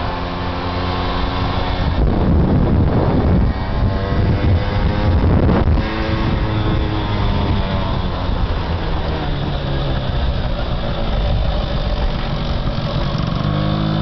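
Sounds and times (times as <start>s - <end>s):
moped engine running: 0.0s - 14.0s
wind buffeting microphone: 0.5s - 14.0s.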